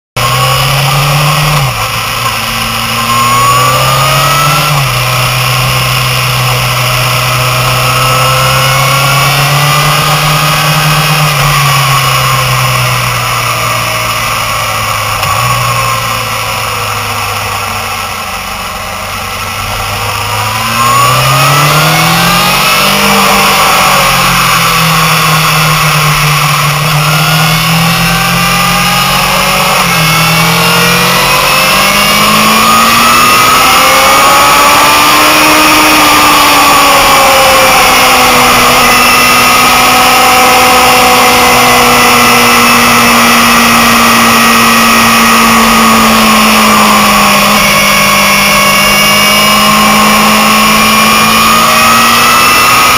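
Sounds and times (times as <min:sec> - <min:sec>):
motorcycle engine revving: 0:00.2 - 0:52.9.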